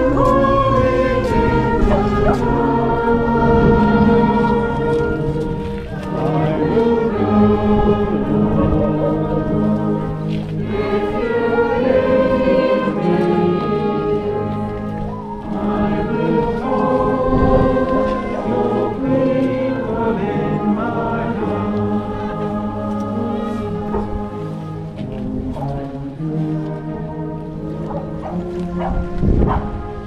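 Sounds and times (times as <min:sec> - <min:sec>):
brass band playing: 0:00.0 - 0:30.0
crowd singing a hymn: 0:00.0 - 0:30.0.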